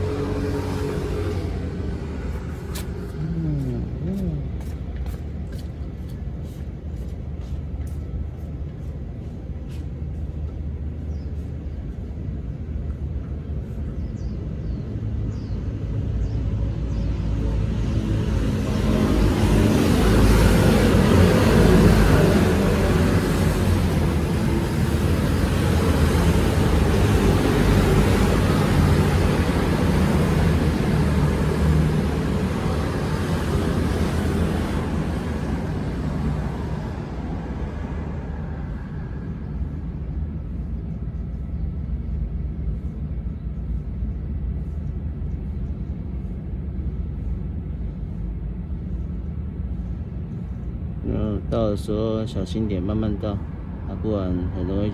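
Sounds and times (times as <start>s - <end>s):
passing motor traffic rumble: 0.0s - 54.9s.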